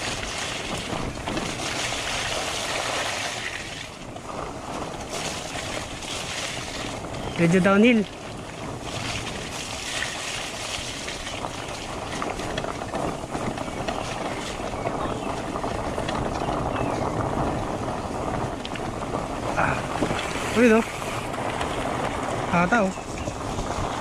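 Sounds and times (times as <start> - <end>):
wind and tyre noise: 0.0 - 24.0.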